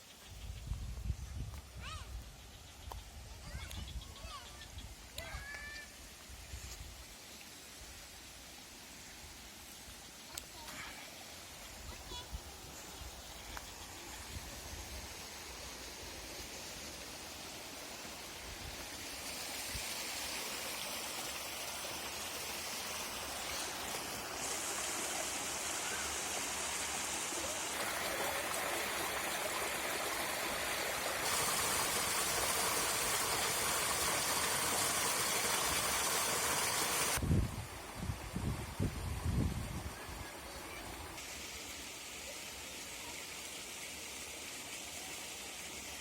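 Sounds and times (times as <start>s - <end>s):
stream water rushing: 7.1s - 46.0s.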